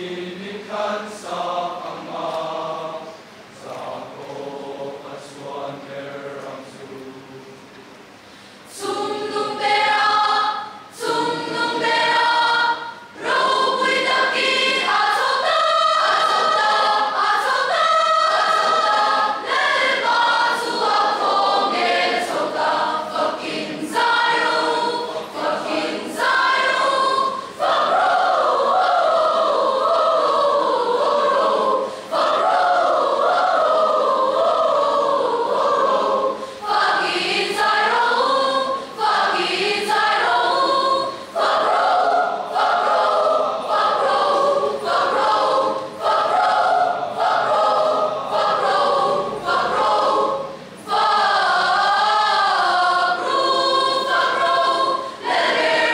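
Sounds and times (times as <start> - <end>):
mixed choir singing: 0.0 - 7.5, 8.7 - 55.9.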